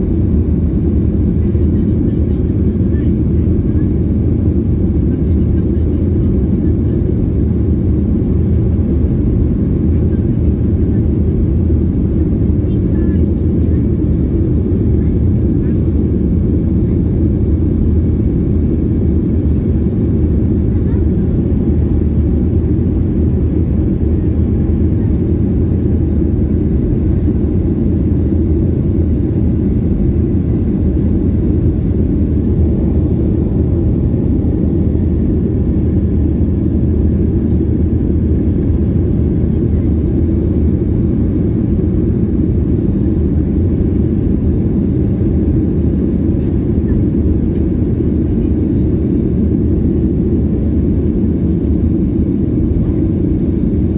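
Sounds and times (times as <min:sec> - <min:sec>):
airplane cabin engine rush: 0:00.0 - 0:53.9.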